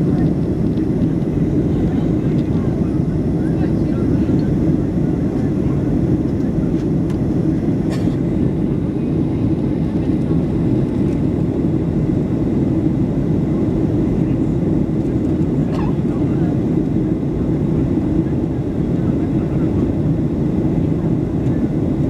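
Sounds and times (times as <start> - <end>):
airplane cabin engine rush: 0.0 - 22.0.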